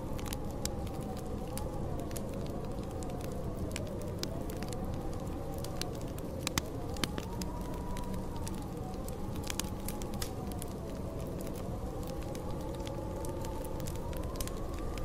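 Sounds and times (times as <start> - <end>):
howling snowstorm wind: 0.0 - 15.0
wood fire crackling and popping: 0.0 - 15.0.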